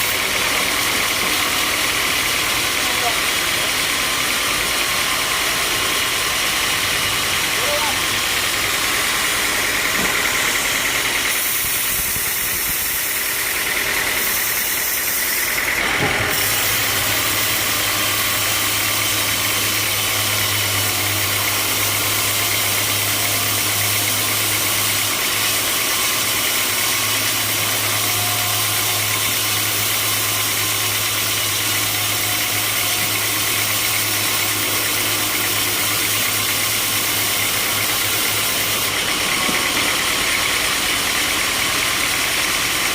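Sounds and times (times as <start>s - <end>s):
low motor hum: 0.0s - 42.9s
sawmill machinery running: 0.0s - 42.9s.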